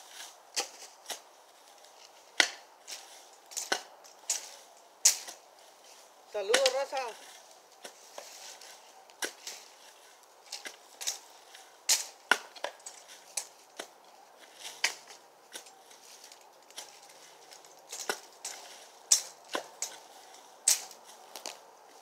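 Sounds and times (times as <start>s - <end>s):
dry branches snapping: 0.0s - 22.0s.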